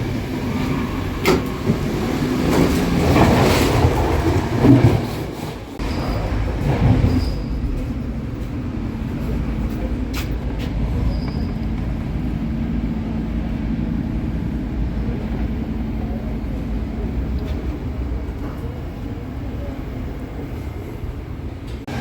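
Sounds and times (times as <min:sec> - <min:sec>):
train coaches rumbling: 0:00.0 - 0:22.0.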